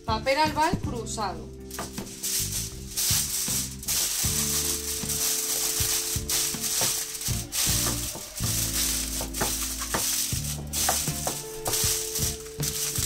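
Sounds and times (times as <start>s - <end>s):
background music with low notes: 0.0s - 13.0s
aluminium foil crinkling: 0.9s - 13.0s.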